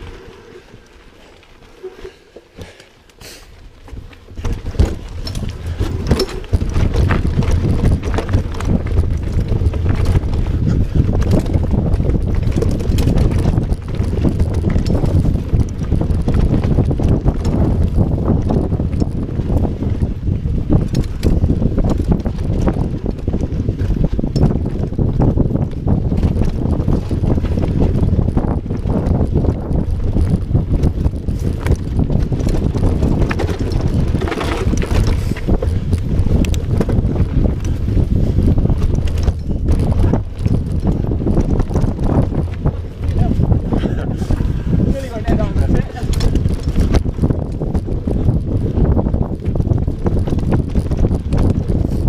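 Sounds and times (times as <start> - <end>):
bike clicks and rattles: 0.0 - 52.0
bike tyre noise on dirt: 0.0 - 52.0
wind noise on microphone: 0.0 - 52.0.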